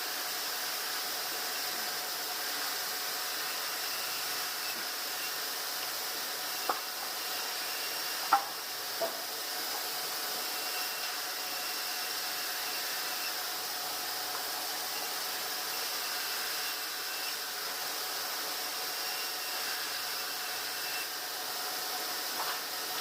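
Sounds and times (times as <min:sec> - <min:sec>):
bandsaw running: 0:00.0 - 0:23.0.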